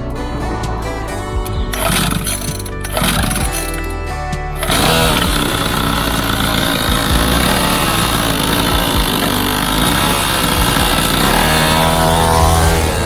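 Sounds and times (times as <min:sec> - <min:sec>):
small petrol engine running: 0:01.4 - 0:04.0, 0:04.6 - 0:13.0.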